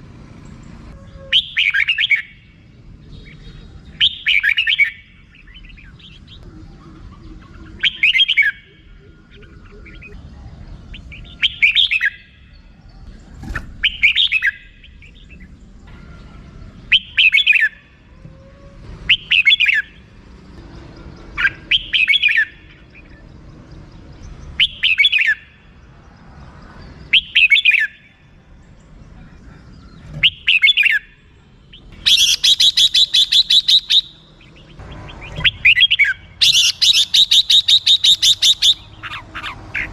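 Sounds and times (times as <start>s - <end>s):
bulbul chirpy calls: 1.2s - 18.2s, 19.0s - 20.2s, 21.2s - 25.9s, 27.0s - 39.9s.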